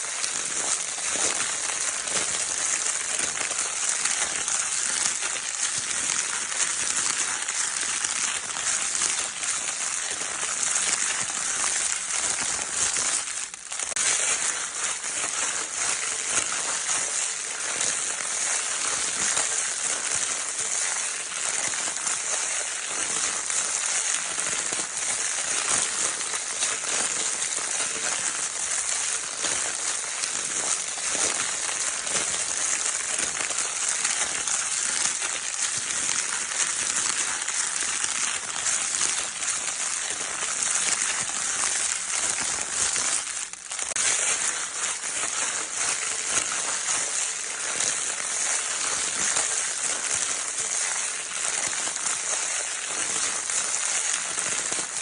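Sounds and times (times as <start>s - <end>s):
crinkle paper crackling: 0.0s - 55.0s.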